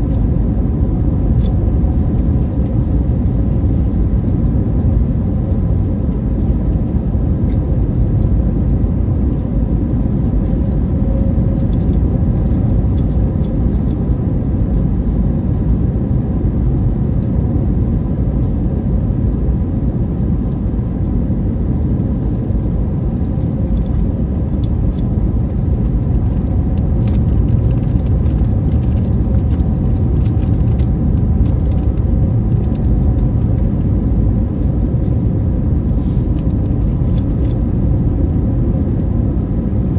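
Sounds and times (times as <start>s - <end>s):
aircraft cabin rumble: 0.0s - 39.9s
faint steady hums: 0.0s - 39.9s.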